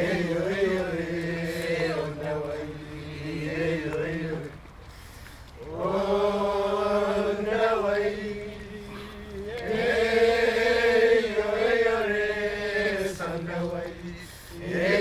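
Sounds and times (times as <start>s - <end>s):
chanting in long held notes: 0.0s - 4.7s, 5.5s - 15.0s.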